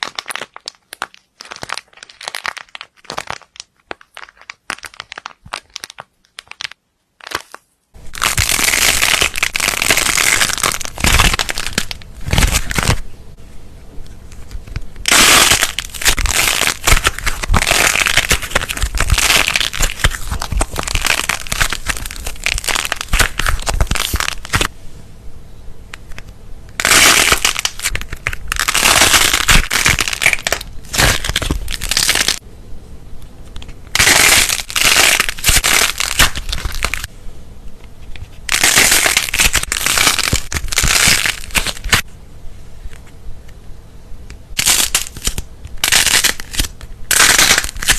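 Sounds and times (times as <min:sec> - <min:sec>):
slime crackling and crunching: 0:00.0 - 0:13.0, 0:15.0 - 0:24.7, 0:26.8 - 0:32.4, 0:33.6 - 0:37.1, 0:38.2 - 0:42.1, 0:44.5 - 0:47.9.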